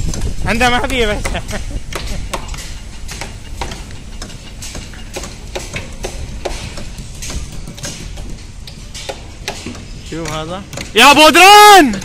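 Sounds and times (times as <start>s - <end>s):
knocks and clanks on timber: 0.0s - 11.0s.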